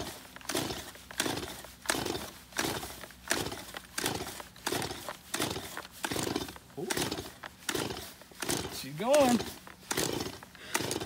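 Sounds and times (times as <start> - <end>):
chainsaw engine turning over: 0.0 - 11.0
chainsaw recoil starter pulls: 0.0 - 11.0.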